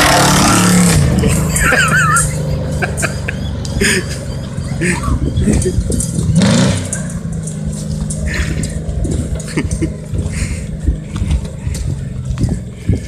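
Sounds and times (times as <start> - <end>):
truck engine driving away: 0.0 - 13.0.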